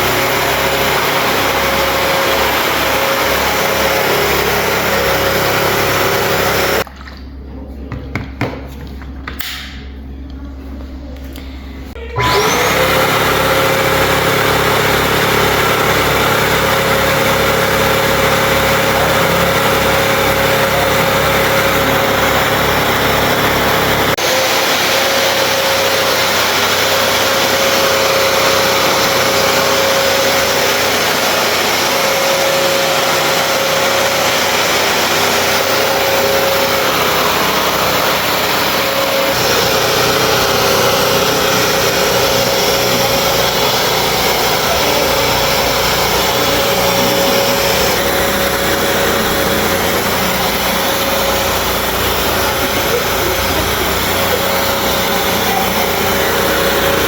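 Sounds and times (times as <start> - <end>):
wet-dry vacuum running: 0.0 - 57.0.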